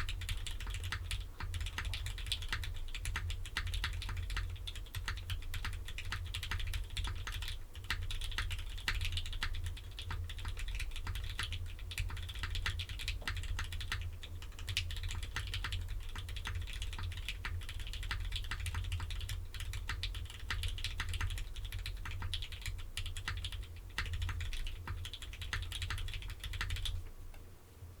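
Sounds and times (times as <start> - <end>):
mechanical keyboard typing: 0.0 - 27.0.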